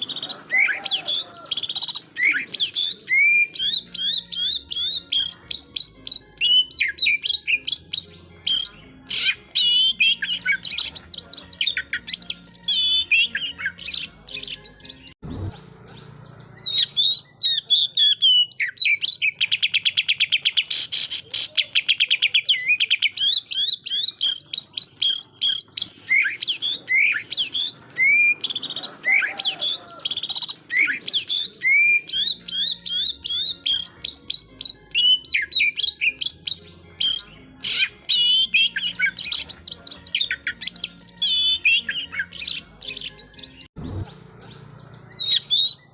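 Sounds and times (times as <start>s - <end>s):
songbird singing whistles and chatters: 0.0s - 45.9s.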